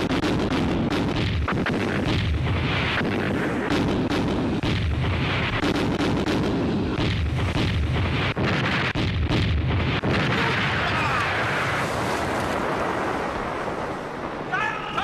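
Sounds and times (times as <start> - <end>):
cannons firing: 0.0 - 15.0.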